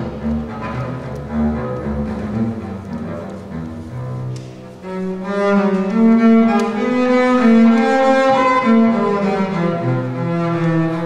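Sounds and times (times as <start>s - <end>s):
bowed double bass: 0.0s - 11.0s.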